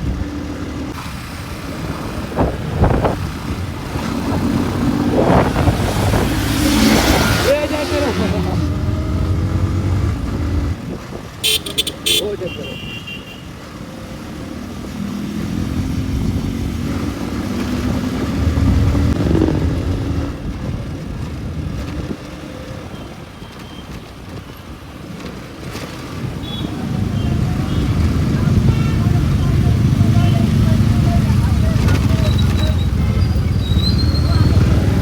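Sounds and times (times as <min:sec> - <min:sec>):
motorcycle engine revving: 0:00.0 - 0:13.1, 0:13.7 - 0:23.0, 0:25.0 - 0:35.0
road and wind noise: 0:00.0 - 0:35.0.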